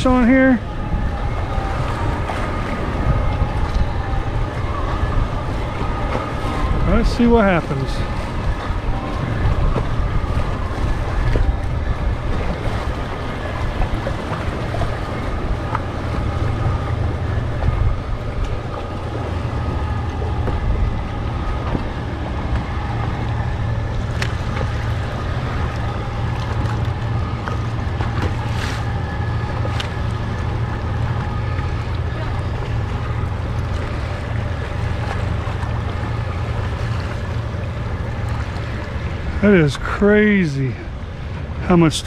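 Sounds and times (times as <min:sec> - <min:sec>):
wind buffeting microphone: 0:00.0 - 0:39.9
boat engine running: 0:00.0 - 0:42.0
water washing against hull: 0:00.0 - 0:42.0.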